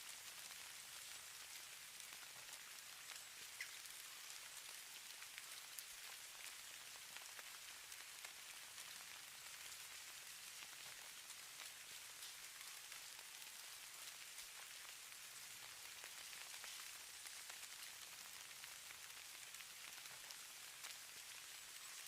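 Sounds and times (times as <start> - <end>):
snow falling patter: 0.0 - 22.0.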